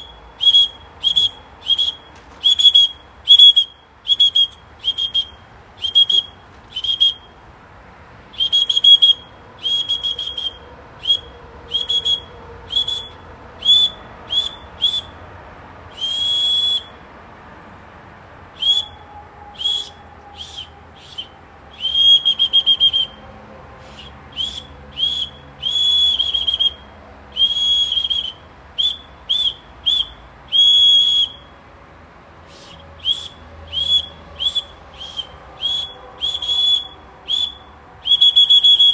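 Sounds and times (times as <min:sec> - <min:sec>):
whistle blown in bird-like chirps: 0:00.0 - 0:07.4, 0:08.4 - 0:15.2, 0:15.9 - 0:17.0, 0:18.6 - 0:23.2, 0:23.8 - 0:31.6, 0:32.5 - 0:38.9.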